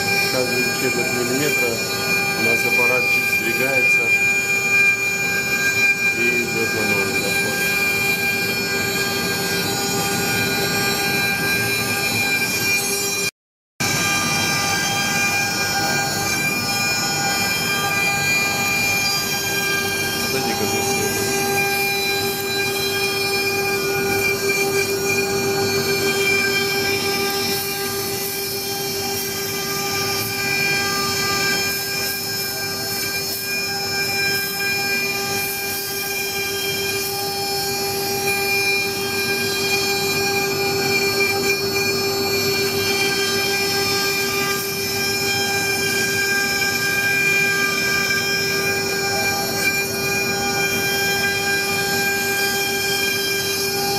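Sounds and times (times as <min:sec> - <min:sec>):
router spindle whining: 0:00.0 - 0:53.9.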